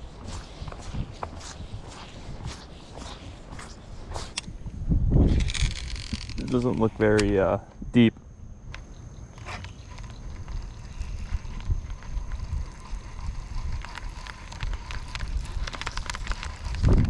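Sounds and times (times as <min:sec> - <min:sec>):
wind buffeting microphone: 0:00.0 - 0:08.8, 0:10.1 - 0:17.0.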